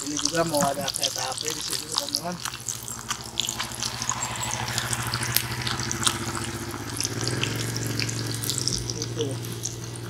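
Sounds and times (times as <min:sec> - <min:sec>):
crackles and pops: 0:00.0 - 0:10.0
fish sizzling in oil: 0:00.0 - 0:10.0.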